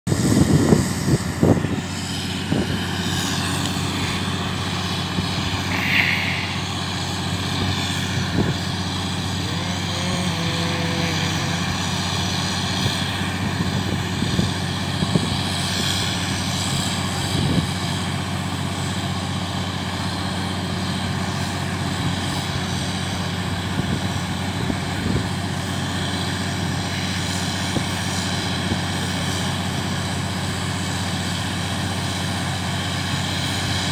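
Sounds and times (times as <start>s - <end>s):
drilling rig engine drone: 0.1s - 33.9s.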